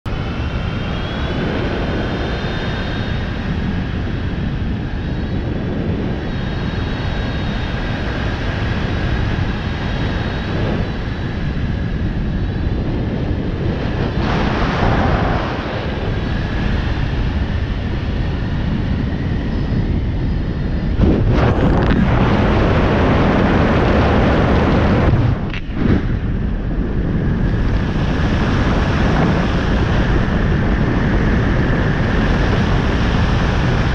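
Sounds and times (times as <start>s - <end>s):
heavy wind on microphone: 0.0s - 33.9s
high-pitched whine: 0.1s - 33.9s.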